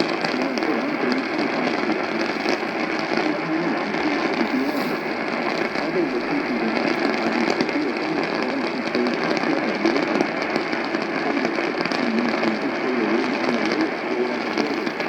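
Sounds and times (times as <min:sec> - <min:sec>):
faint crackle: 0:00.0 - 0:15.0
radio static hiss: 0:00.0 - 0:15.0
weak voice through radio: 0:00.0 - 0:15.0.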